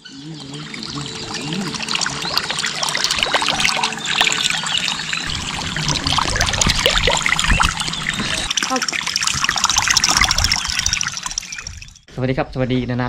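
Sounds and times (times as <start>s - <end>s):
low wavering tones: 0.0s - 12.0s
water trickling and splashing: 0.1s - 12.1s.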